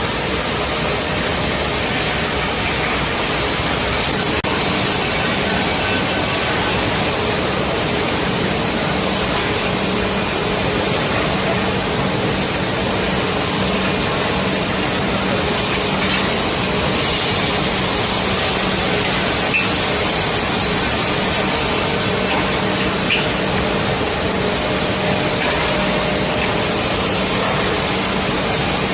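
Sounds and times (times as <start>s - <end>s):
machinery whirring: 0.0s - 28.9s.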